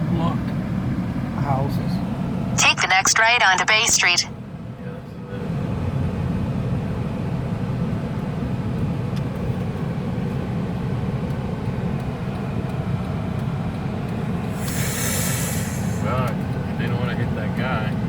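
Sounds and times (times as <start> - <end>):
car engine and tyre rumble: 0.0 - 2.6, 4.3 - 18.0.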